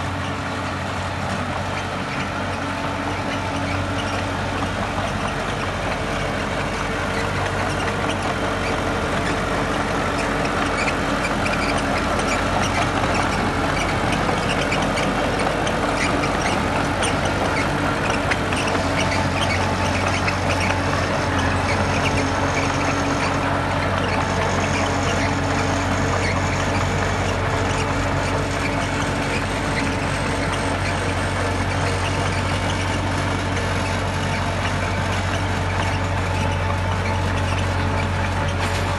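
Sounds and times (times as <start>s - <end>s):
diesel engine drone: 0.0s - 38.9s
metallic clanks and squeaks: 1.2s - 38.9s.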